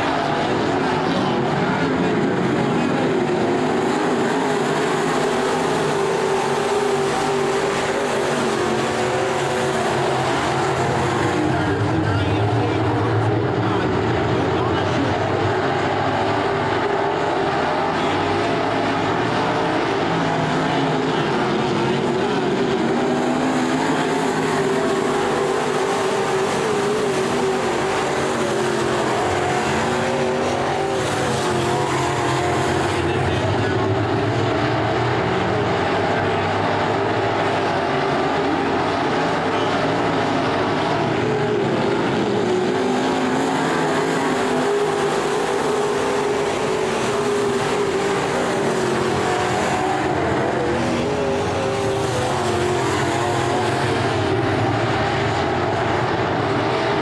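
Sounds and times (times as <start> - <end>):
race car engines droning: 0.0 - 57.0.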